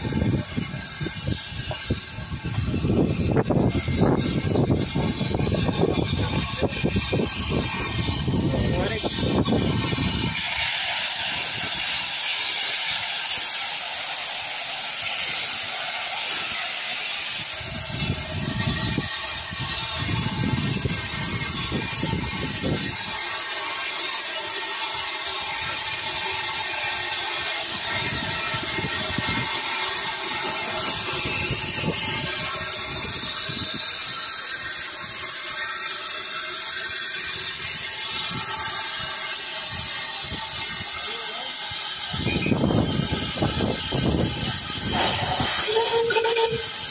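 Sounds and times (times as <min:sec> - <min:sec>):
steam hissing: 0:00.0 - 0:46.9.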